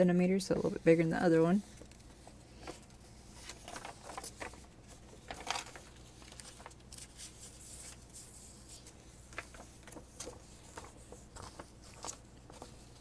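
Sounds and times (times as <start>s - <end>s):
paper rustling: 1.3s - 13.0s.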